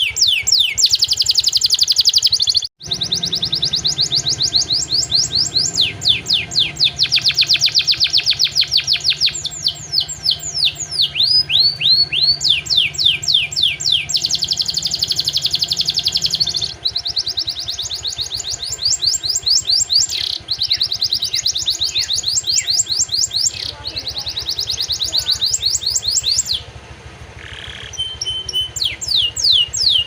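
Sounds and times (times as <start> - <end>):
canary singing: 0.0 - 30.0
low hum: 0.3 - 30.0.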